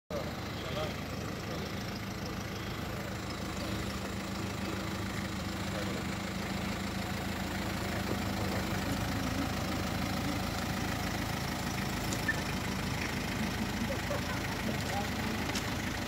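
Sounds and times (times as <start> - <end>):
diesel engine idling: 0.1 - 16.0.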